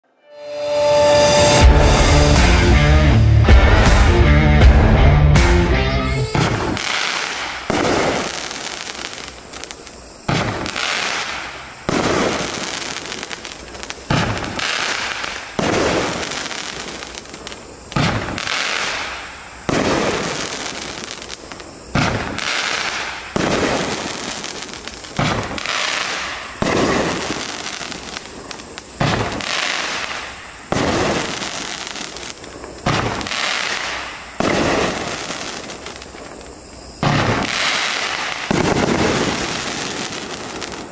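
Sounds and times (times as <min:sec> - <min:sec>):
firework hiss: 0:00.3 - 0:03.1, 0:06.0 - 0:40.9
fireworks cake firing bangs: 0:06.3 - 0:40.9.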